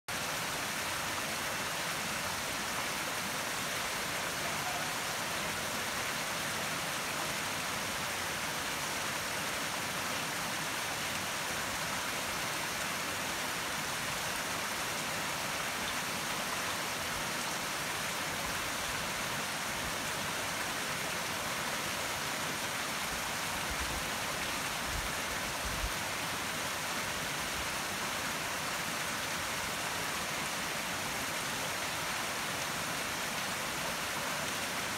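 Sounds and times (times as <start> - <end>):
river rushing: 0.1 - 34.9.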